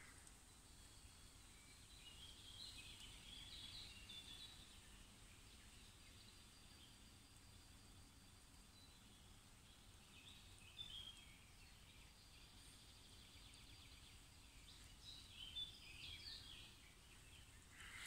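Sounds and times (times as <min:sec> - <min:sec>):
faint songbirds singing: 0:00.0 - 0:18.0.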